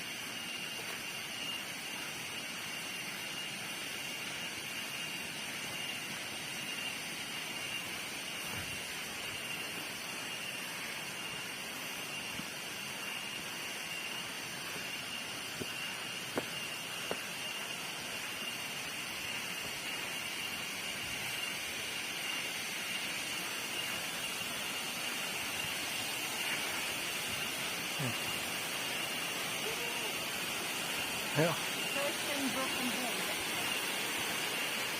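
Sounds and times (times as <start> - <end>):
even hiss: 0.0 - 34.9
high-pitched buzzing tone: 0.0 - 34.9.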